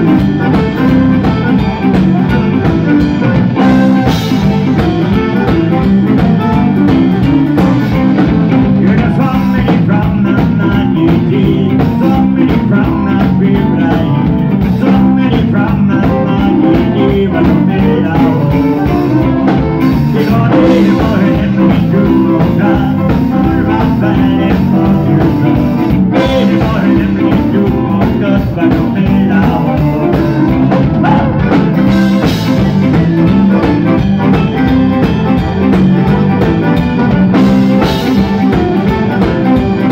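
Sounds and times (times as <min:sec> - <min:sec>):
button accordion: 0:00.0 - 0:39.9
drum kit steady beat: 0:00.0 - 0:39.9
electric guitar: 0:00.0 - 0:39.9
man singing: 0:00.0 - 0:39.9.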